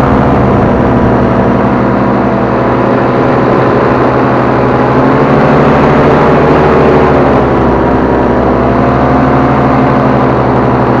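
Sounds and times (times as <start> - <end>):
paramotor engine and propeller: 0.0 - 11.0.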